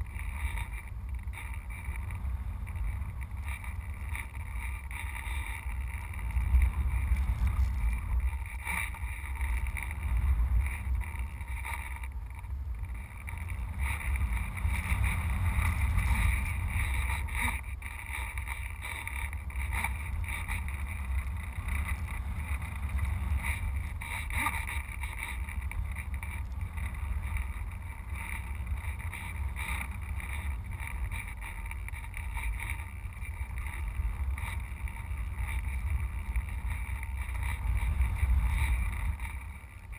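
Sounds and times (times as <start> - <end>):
wind rumble over camera: 0.0 - 39.9.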